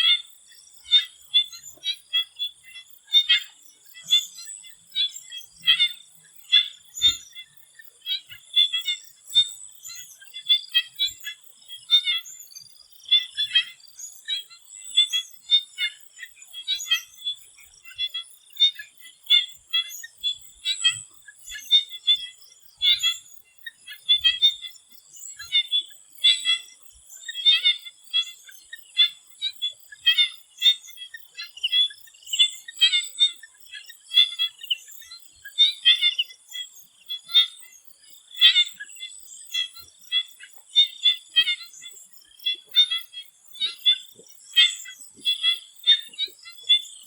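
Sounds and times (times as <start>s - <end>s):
frogs calling: 0.0s - 47.0s.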